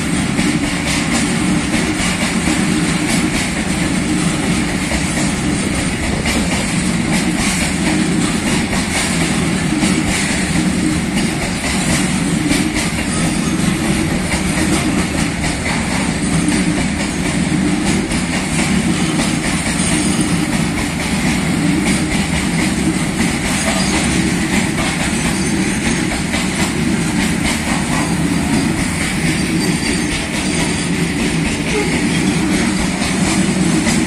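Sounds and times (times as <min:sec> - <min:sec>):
clatter over rail joints: 0:00.0 - 0:34.0
train wheels rumbling on rails: 0:00.0 - 0:34.0.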